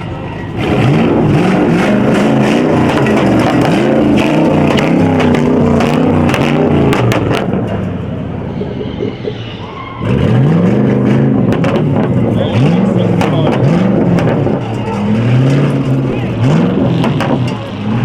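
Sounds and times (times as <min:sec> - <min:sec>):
car engine revving: 0:00.0 - 0:18.0
sharp exhaust cracks: 0:00.0 - 0:18.0.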